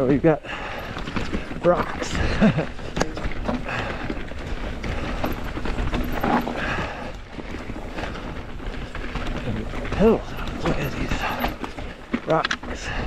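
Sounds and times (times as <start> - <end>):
bike clattering: 0.0 - 13.0
tyres crunching on rock and dirt: 0.0 - 13.0.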